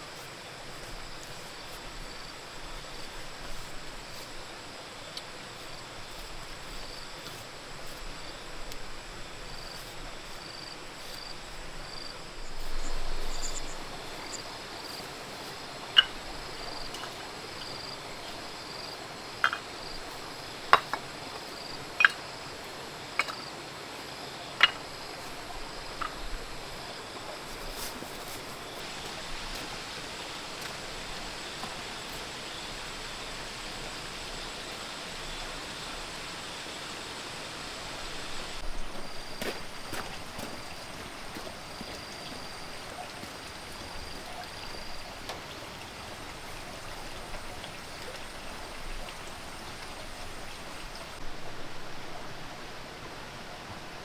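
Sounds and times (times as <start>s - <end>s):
crickets chirping: 0.0s - 51.3s
outdoor background noise: 0.0s - 54.0s.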